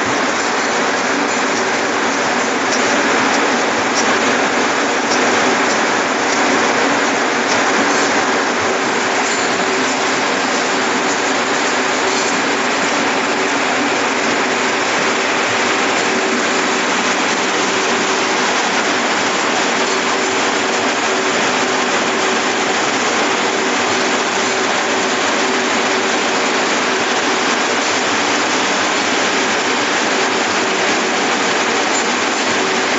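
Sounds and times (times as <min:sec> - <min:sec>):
circular looms clattering: 0:00.0 - 0:32.9.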